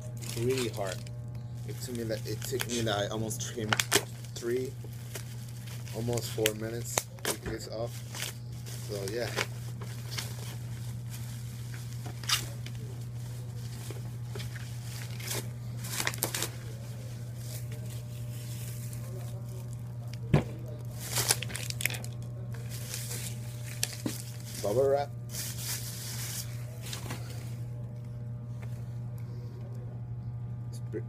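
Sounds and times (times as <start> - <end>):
low hum: 0.0 - 31.0
plastic packaging crinkling: 0.1 - 27.8.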